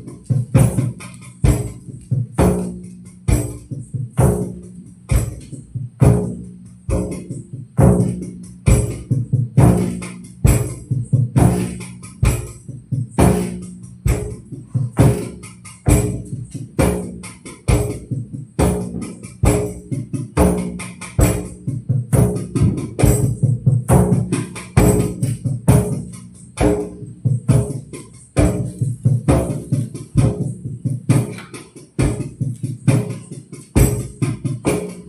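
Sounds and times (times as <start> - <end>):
hand drum: 0.0 - 35.0
tambourine jingles: 0.0 - 35.0.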